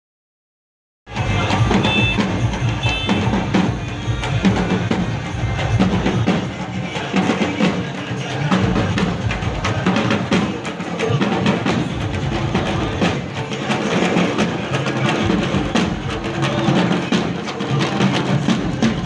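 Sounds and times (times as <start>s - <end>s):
loud music with rapid drums and bass: 1.1s - 19.0s.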